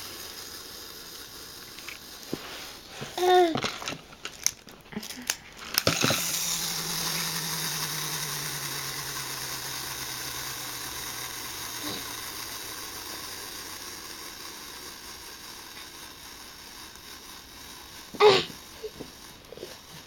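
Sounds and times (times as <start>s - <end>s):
wind-up toy spring motor whirring: 0.0s - 20.0s.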